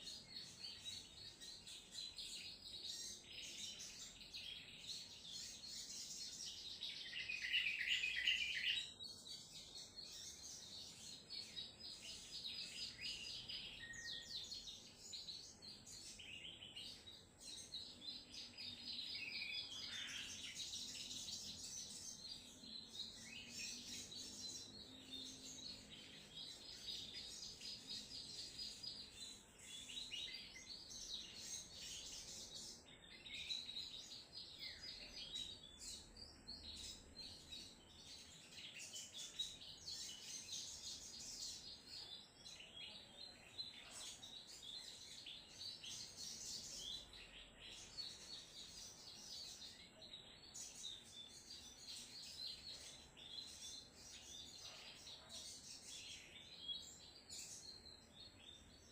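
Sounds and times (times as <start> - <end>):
bird singing chattering trills: 0.0 - 58.9.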